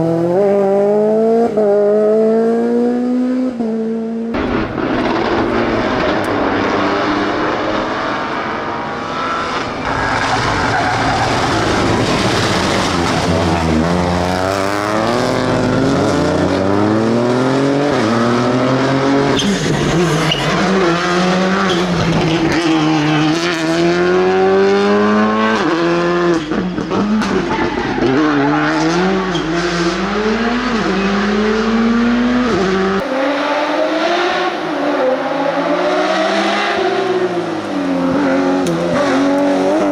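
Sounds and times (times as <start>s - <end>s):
rally car engine at hard throttle: 0.0s - 39.9s.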